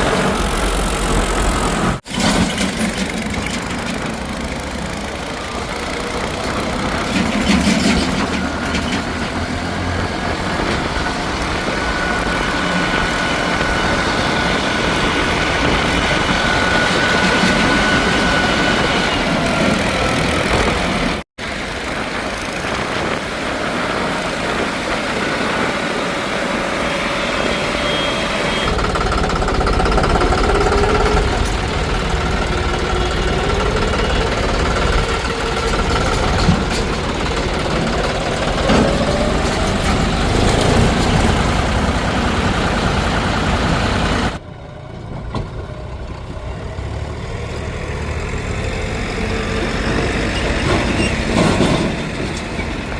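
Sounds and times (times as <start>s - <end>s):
diesel machinery engines revving: 0.0s - 52.9s.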